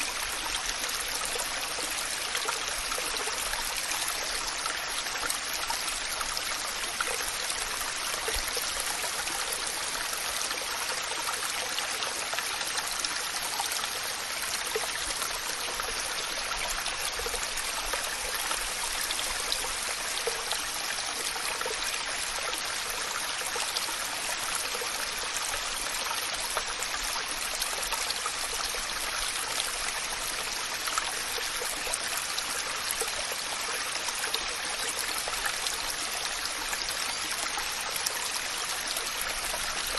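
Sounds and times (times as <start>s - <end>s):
water splashes and trickles: 0.0s - 39.9s.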